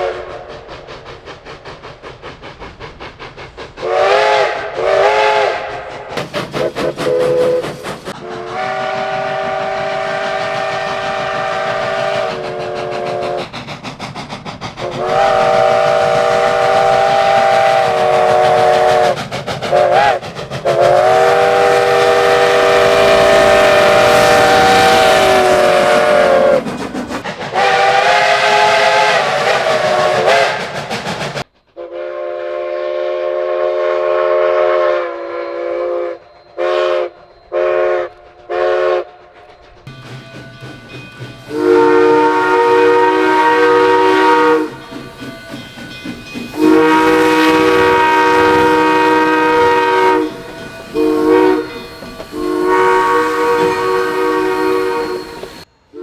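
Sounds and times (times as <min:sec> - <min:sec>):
train whistle blowing chords: 0:00.0 - 0:00.7, 0:03.8 - 0:06.1, 0:07.0 - 0:13.4, 0:14.8 - 0:26.7, 0:27.5 - 0:30.8, 0:31.7 - 0:39.3, 0:41.5 - 0:45.3, 0:46.6 - 0:56.0.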